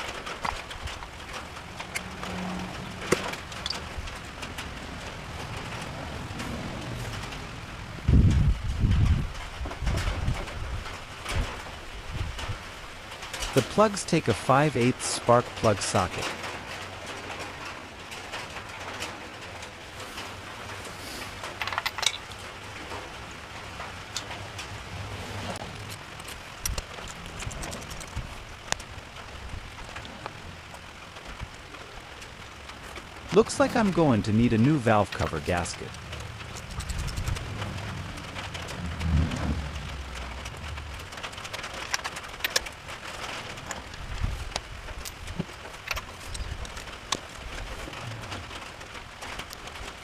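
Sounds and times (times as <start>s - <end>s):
steady rain: 0.0s - 50.0s.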